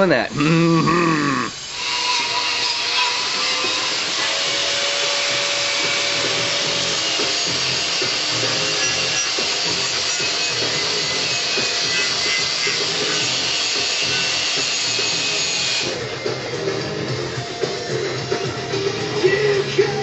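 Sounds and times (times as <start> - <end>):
power tool grinding steel: 0.0 - 20.0.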